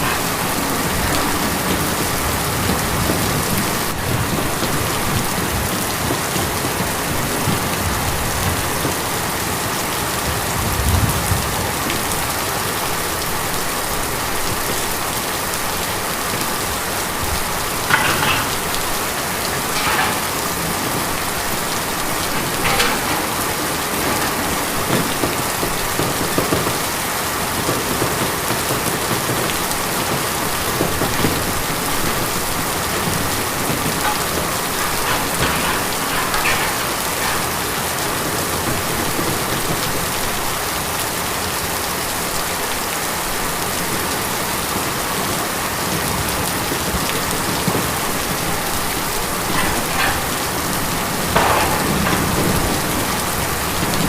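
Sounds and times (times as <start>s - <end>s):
rain on tin: 0.0s - 54.0s.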